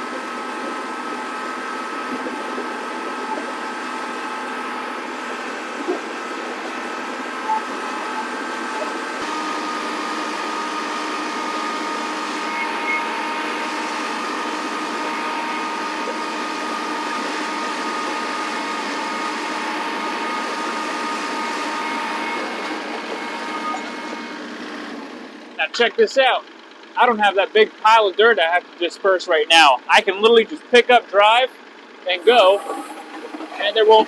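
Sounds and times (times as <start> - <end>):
tractor diesel engine droning: 0.0 - 34.0.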